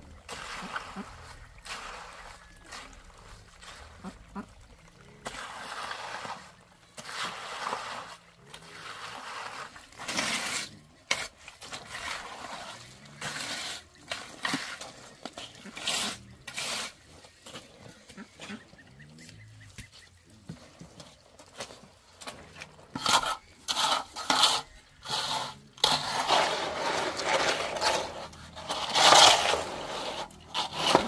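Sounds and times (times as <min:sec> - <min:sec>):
rake scraping wet concrete: 0:00.0 - 0:31.0.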